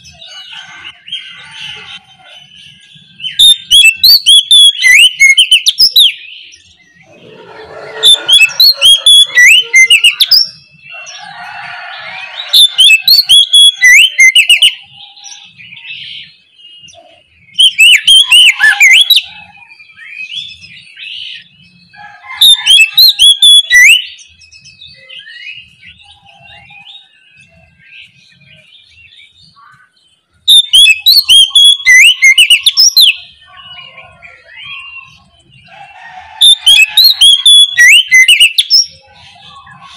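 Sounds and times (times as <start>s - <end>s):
songbird whistling and trilling: 0.0s - 11.2s, 12.3s - 29.8s, 30.4s - 35.8s, 36.4s - 39.9s.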